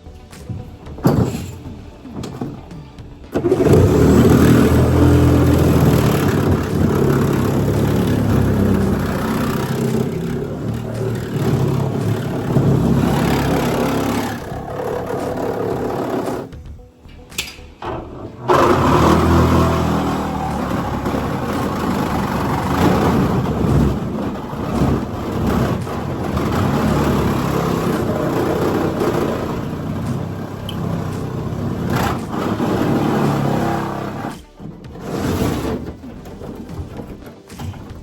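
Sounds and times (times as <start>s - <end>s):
power tool cutting under load: 3.4s - 16.7s, 17.8s - 36.0s.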